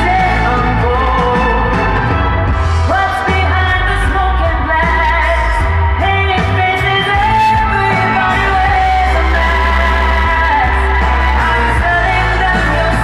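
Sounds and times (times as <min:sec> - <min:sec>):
loud pop music with singing: 0:00.0 - 0:13.0.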